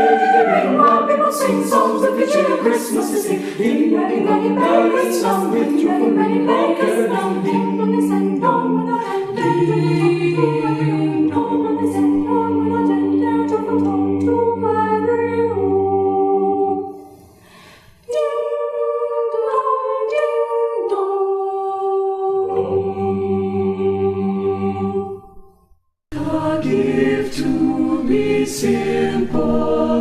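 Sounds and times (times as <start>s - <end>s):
choir singing a cappella: 0.0s - 25.4s, 26.1s - 30.0s.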